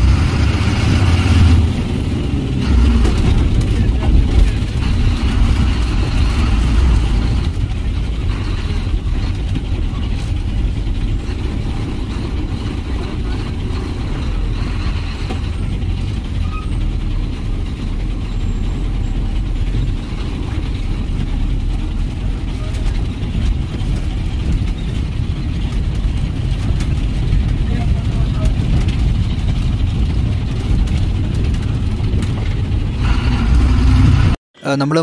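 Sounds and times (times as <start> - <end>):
diesel bus engine rumbling: 0.0 - 35.0
road noise: 0.0 - 35.0.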